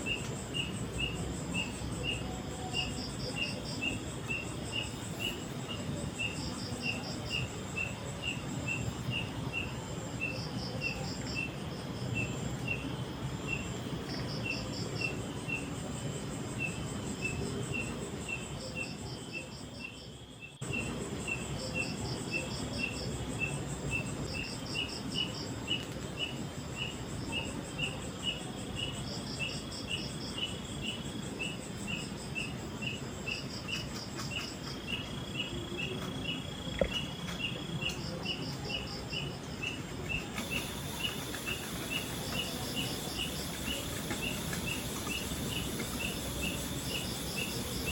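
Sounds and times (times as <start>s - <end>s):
crickets chirping: 0.0s - 47.9s
insect pulsed trill: 0.0s - 47.9s.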